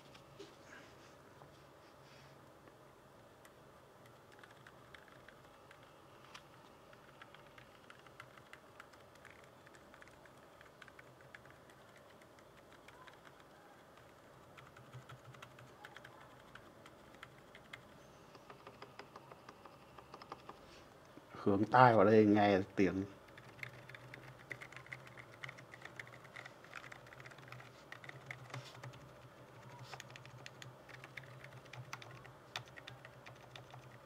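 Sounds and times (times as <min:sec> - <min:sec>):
faint keyboard typing clicks: 0:03.4 - 0:20.6, 0:23.3 - 0:34.0.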